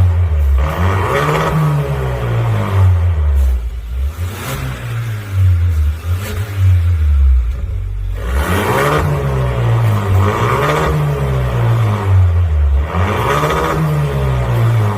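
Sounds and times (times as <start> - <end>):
car engine idling and revving: 0.0 - 14.9.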